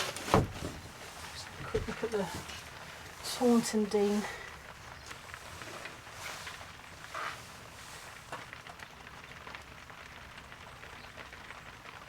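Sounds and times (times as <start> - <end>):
rustle: 0.0 - 12.0
steady rain falling: 0.0 - 12.0.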